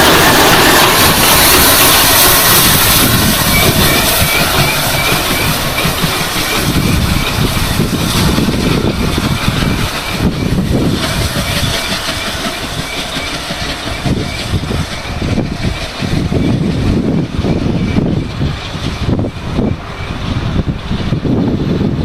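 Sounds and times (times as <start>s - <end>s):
steam locomotive rumbling: 0.0s - 22.0s.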